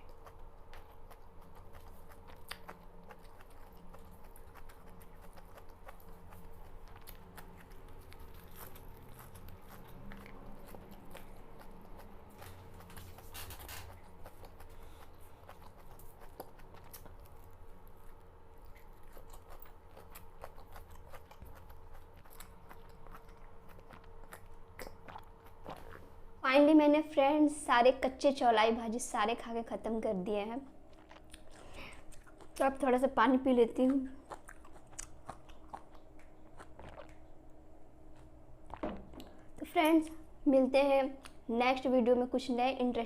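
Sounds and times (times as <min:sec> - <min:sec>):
person chewing leaves: 0:00.0 - 0:26.4, 0:30.8 - 0:32.9, 0:33.6 - 0:39.6
faint steady hum: 0:00.0 - 0:43.0.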